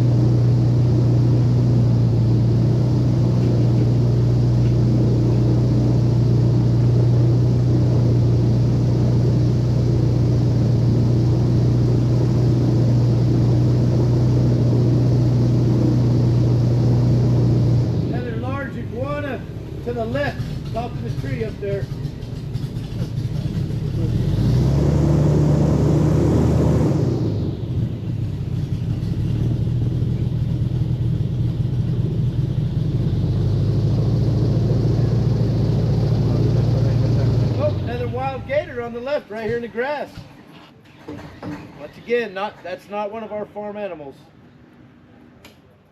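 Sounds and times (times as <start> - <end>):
airboat engine and propeller drone: 0.0 - 39.1.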